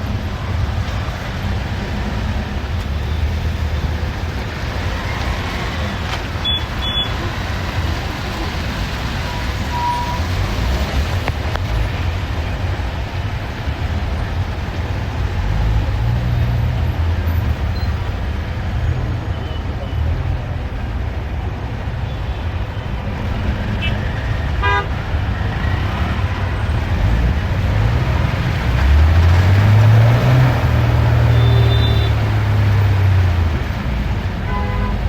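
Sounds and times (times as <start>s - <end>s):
bus engine rumble and road noise: 0.0s - 35.0s.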